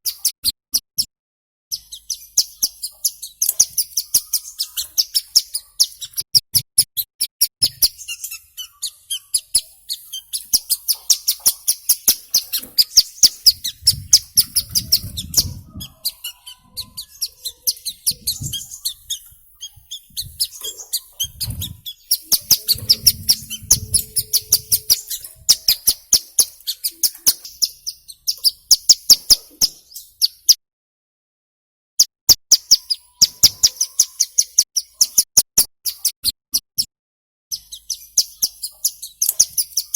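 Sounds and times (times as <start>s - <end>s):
bird chirping rapidly: 1.7s - 30.6s, 32.3s - 36.1s, 37.5s - 39.9s.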